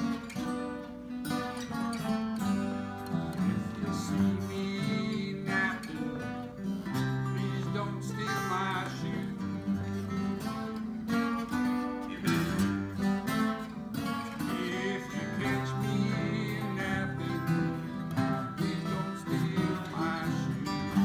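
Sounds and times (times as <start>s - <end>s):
acoustic guitars strumming blues: 0.0s - 21.0s
man singing: 2.7s - 21.0s.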